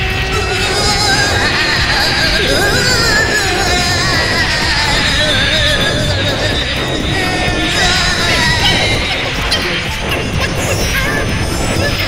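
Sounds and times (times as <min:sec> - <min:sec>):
cartoon background music: 0:00.0 - 0:12.0.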